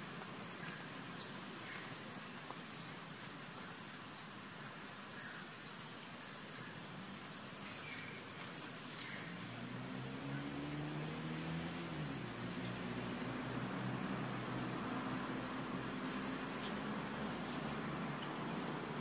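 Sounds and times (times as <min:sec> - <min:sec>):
faint outdoor hiss: 0:00.0 - 0:19.0
insects chirping drone: 0:00.0 - 0:19.0.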